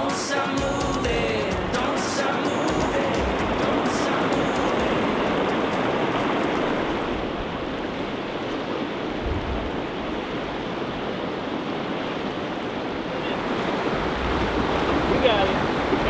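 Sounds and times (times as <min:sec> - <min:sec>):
river rushing over stones: 0:00.0 - 0:16.0.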